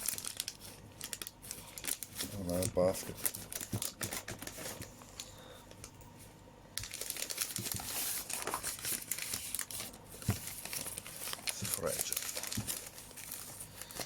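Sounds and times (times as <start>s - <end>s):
packaging crinkling and rustling: 0.0s - 6.0s, 6.8s - 14.0s.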